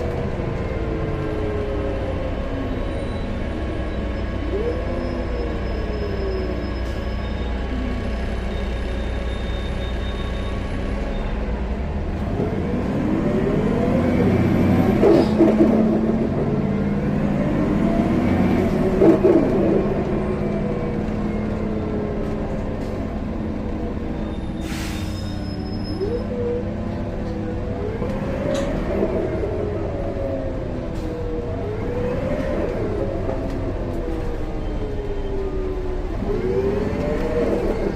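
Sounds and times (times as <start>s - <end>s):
bus engine rumble: 0.0s - 37.9s.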